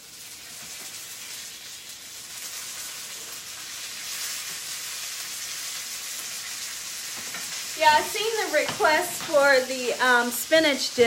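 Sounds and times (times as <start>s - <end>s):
sausage sizzling in a skillet: 0.0s - 11.0s.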